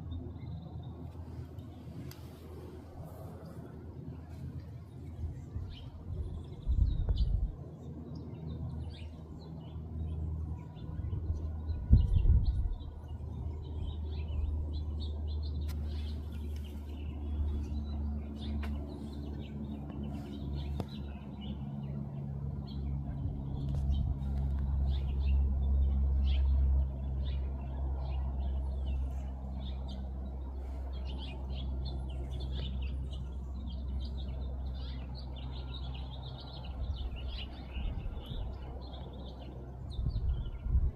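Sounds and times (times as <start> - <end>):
small birds chirping: 0.0 - 40.9
steady low rumble: 0.0 - 40.9.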